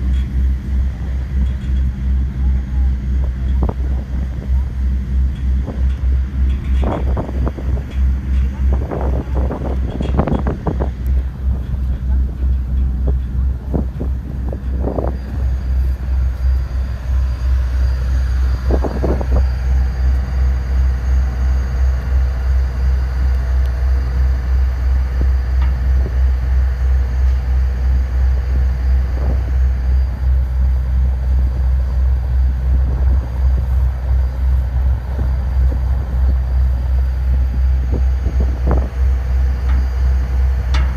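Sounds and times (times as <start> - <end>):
ship engine drone: 0.0 - 40.9.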